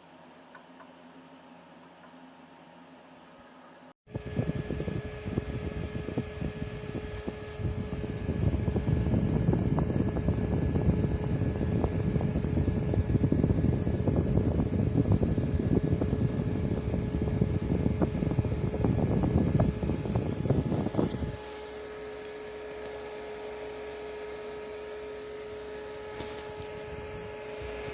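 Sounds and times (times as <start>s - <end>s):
fan airflow rumble: 3.6s - 27.9s
faint steady hum: 4.1s - 27.9s.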